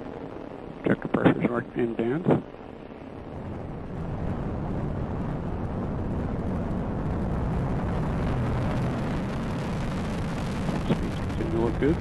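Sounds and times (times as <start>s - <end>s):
rocket engine rumble: 0.0s - 12.0s.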